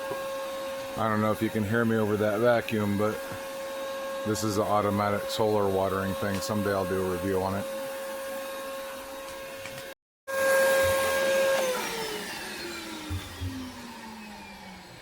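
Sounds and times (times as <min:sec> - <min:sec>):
shop vac motor whining: 0:00.0 - 0:15.0.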